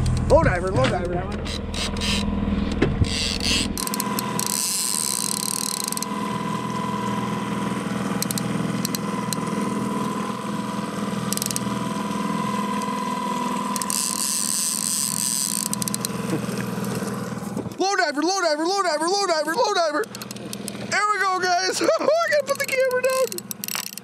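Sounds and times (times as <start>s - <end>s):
boat motor running: 0.0s - 24.0s
fishing reel gears whining: 1.3s - 17.2s, 18.0s - 24.0s.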